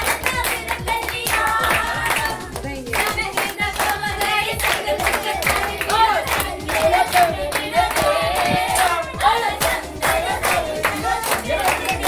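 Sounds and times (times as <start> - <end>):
group singing: 0.0 - 12.0
rhythmic hand clapping: 0.0 - 12.0.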